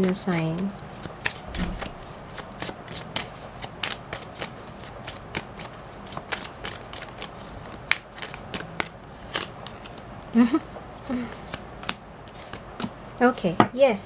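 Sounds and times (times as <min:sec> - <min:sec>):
tarot cards being shuffled: 0:00.0 - 0:10.3, 0:11.0 - 0:12.9.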